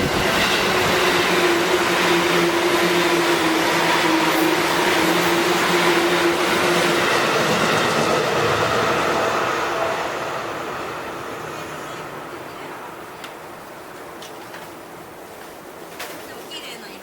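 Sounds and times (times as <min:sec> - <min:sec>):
electric train wheels on rails: 0:00.0 - 0:17.0.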